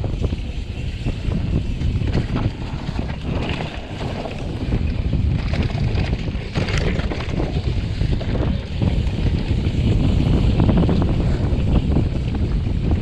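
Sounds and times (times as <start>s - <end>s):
wind buffeting microphone: 0.0s - 13.0s
bike knocks and rattles: 0.1s - 13.0s
tyre rumble over dirt: 1.1s - 13.0s.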